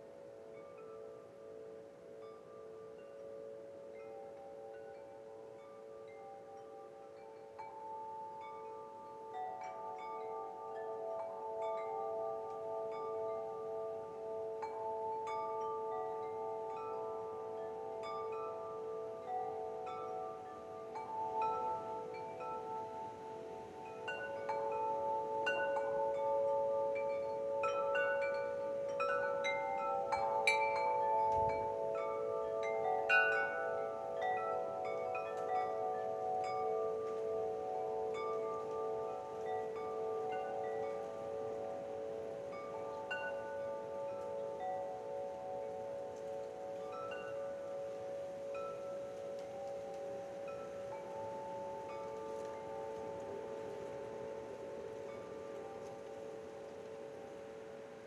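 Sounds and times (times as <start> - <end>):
wind chimes ringing: 0.0 - 58.0.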